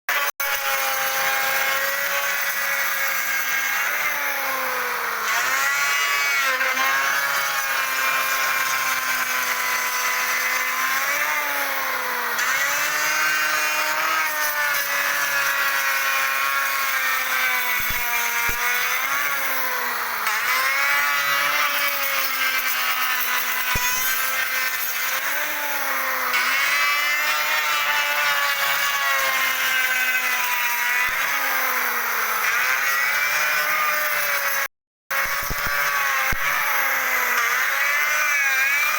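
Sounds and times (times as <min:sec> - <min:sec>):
wood router cutting wood: 0:00.0 - 0:38.9.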